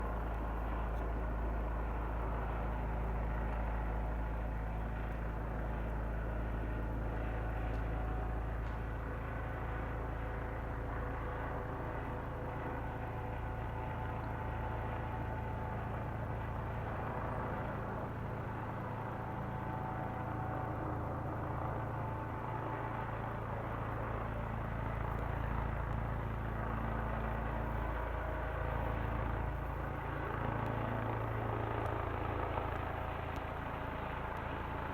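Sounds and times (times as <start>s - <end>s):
helicopter engine and rotors droning: 0.0s - 34.9s.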